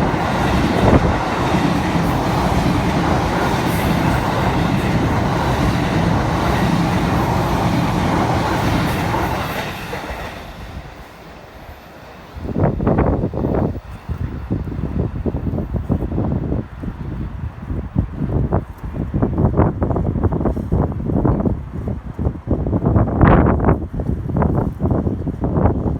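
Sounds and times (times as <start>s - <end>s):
electric train passing: 0.0s - 21.9s.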